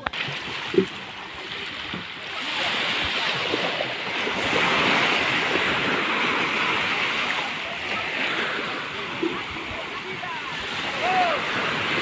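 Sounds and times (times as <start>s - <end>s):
small waves washing up a beach: 0.0s - 12.0s.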